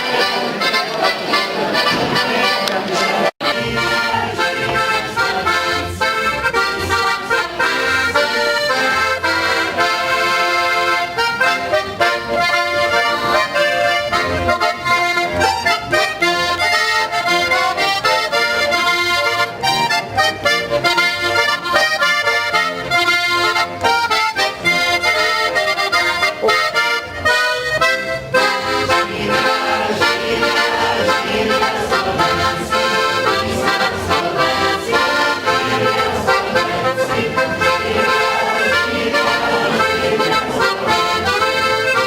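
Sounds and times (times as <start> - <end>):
button accordion music: 0.0 - 42.0.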